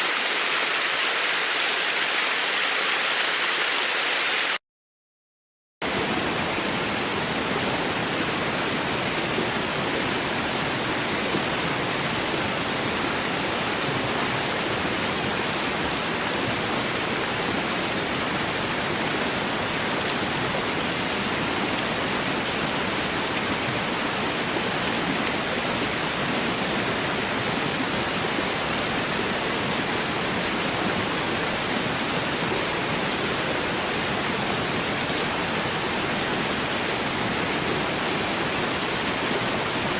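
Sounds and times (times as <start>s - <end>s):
babbling creek: 0.0s - 4.6s, 5.8s - 39.9s.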